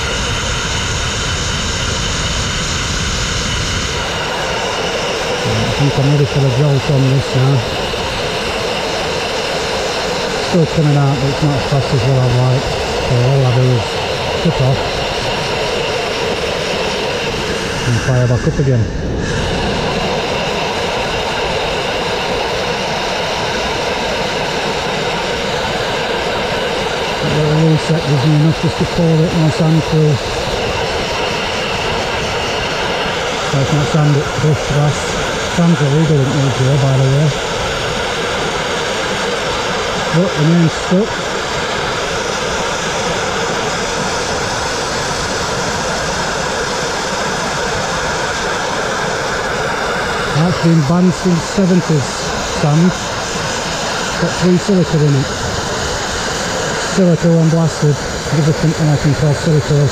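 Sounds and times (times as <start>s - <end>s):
abrasive blasting hiss: 0.0s - 59.9s.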